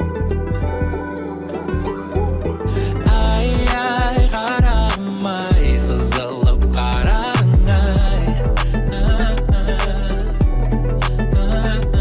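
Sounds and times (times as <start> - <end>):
deep bass line: 0.0 - 1.2, 1.8 - 12.0
plucked-string notes: 0.0 - 12.0.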